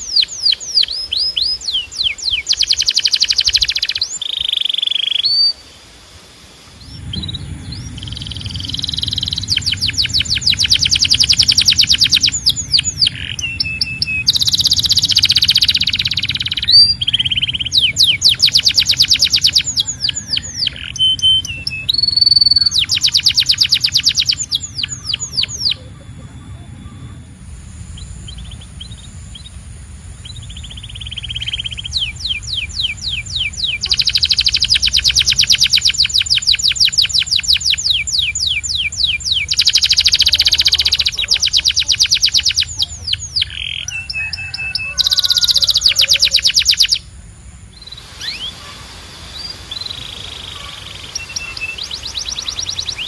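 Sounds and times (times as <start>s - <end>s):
canary singing trills: 0.0s - 5.8s, 6.7s - 53.0s.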